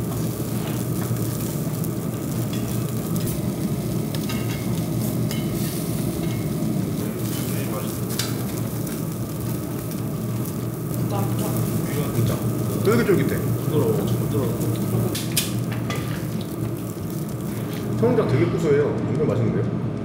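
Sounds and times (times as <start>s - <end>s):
beef sizzling on a grill: 0.0s - 19.0s.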